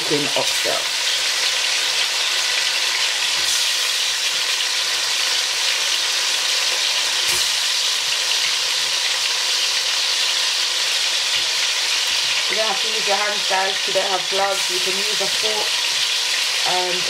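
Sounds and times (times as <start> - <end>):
meat sizzling in hot oil: 0.0 - 17.0.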